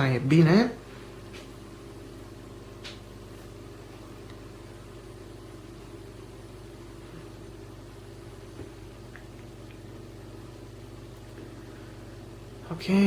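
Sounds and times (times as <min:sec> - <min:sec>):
computer cooling fans whirring: 0:00.0 - 0:13.0.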